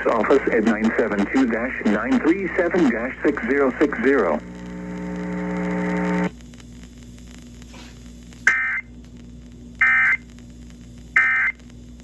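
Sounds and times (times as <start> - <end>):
radio hum and static: 0.0 - 12.0.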